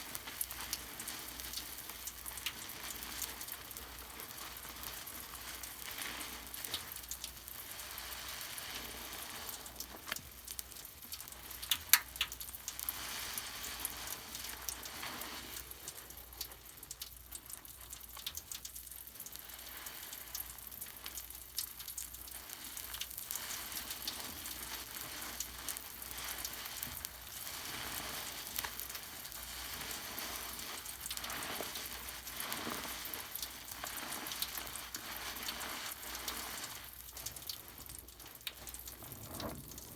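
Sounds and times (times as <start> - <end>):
foam bubbles crackling and fizzing: 0.0 - 39.9.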